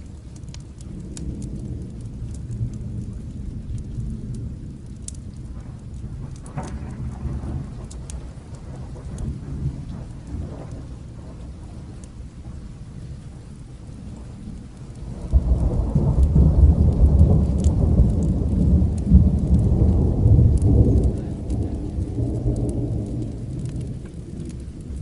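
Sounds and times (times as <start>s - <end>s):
light crackles: 0.0s - 25.0s
steady rain: 0.0s - 25.0s
thunder rumbling: 0.0s - 25.0s.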